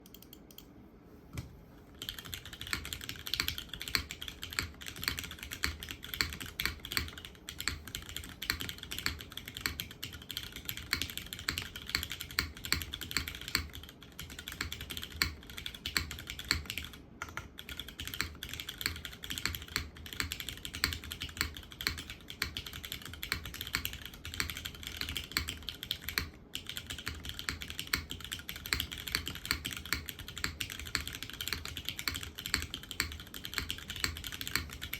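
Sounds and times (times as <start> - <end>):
typing on mechanical keyboard: 1.9 - 34.9.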